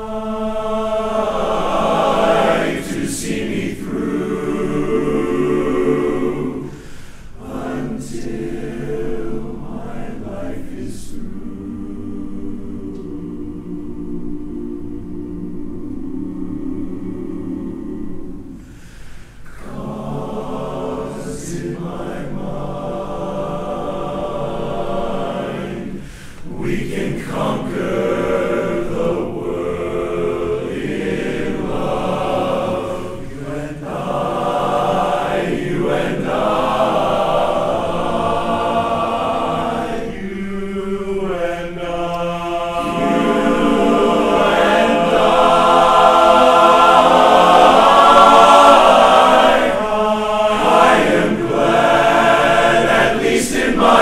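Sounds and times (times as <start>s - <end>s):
men's chorus singing a cappella: 0.0s - 54.0s.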